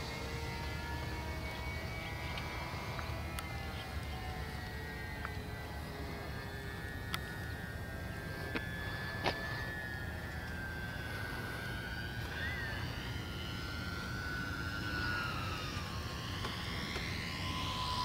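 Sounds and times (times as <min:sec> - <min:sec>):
model plane engines whining: 0:00.0 - 0:18.0.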